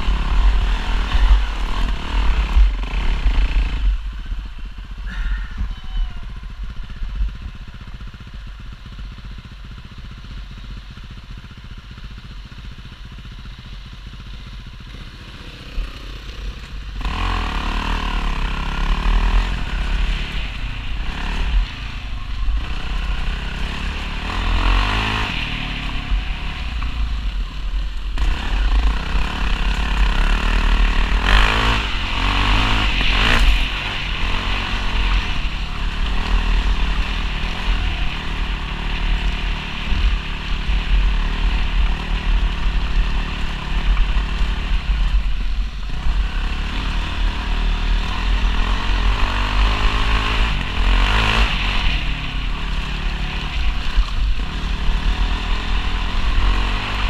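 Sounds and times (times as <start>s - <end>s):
dirt bike engine revving: 0.0s - 5.6s, 14.1s - 57.0s.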